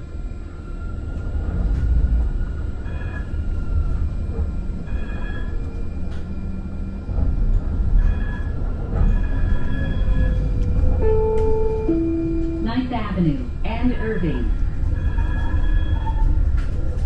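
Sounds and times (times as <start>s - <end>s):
light-rail train rumbling: 0.0s - 17.0s.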